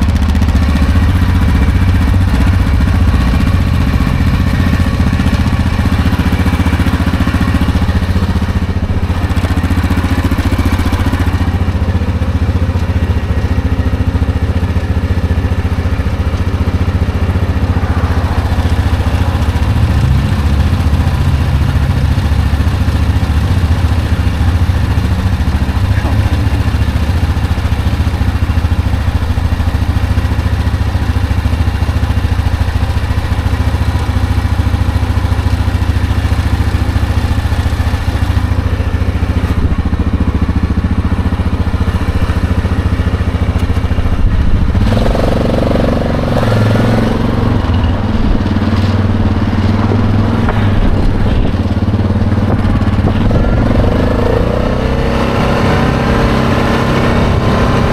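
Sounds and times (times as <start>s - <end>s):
quad engine idling and revving: 0.0s - 57.9s.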